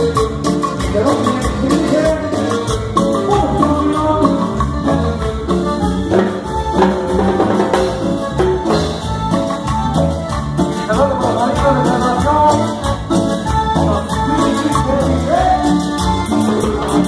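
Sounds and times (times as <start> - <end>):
live band playing latin dance music: 0.0 - 17.0
quick percussion rhythm: 0.0 - 17.0.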